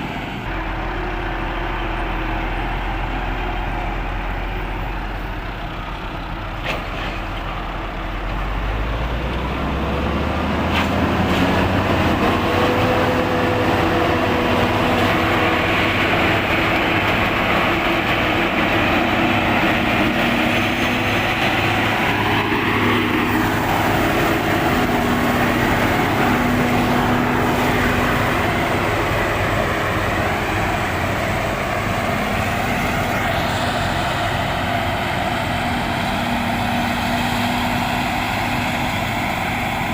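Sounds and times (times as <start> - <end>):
harvester engine droning: 0.0 - 39.9.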